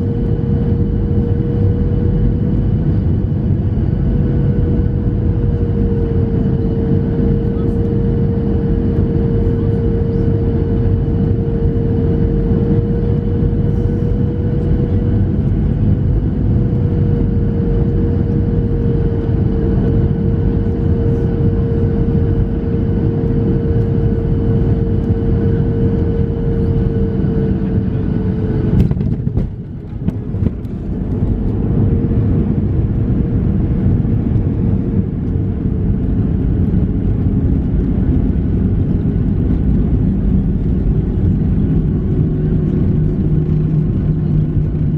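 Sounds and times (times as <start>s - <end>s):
aircraft cabin engine rush: 0.0s - 44.9s
steady whine: 0.0s - 44.9s.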